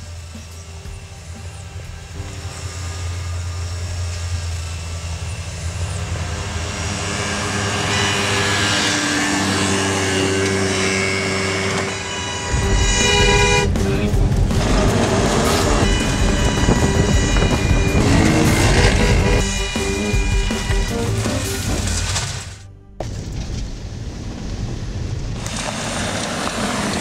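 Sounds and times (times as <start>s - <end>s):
motor vehicle running: 0.0s - 27.0s
rough engine rumble: 0.0s - 27.0s
horn-like tones: 0.8s - 23.0s.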